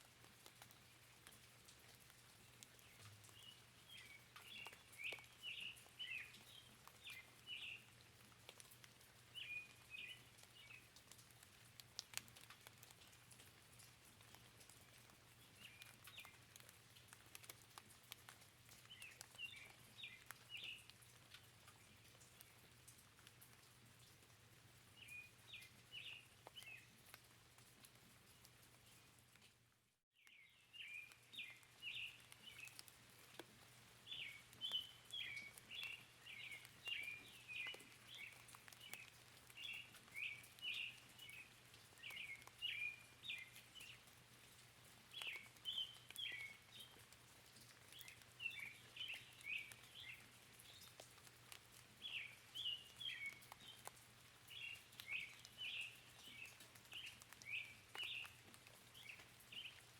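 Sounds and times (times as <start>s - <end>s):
light drip ticks: 0.0s - 59.9s
small birds chirping: 0.3s - 29.6s, 30.2s - 59.9s.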